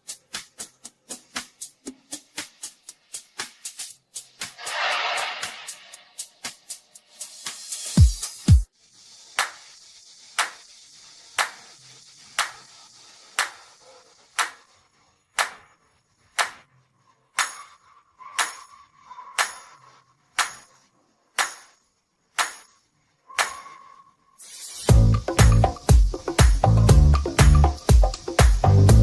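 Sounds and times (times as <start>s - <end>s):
faint hiss: 0.0s - 17.6s, 19.6s - 28.9s.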